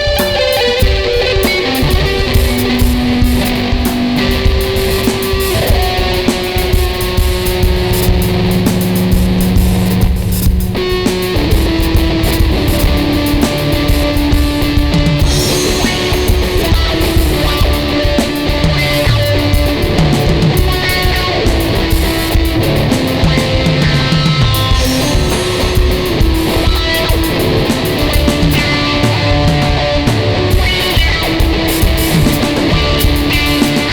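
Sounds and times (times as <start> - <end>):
electric guitar heavy rock: 0.0 - 33.9
electronic drum beat: 0.0 - 33.9.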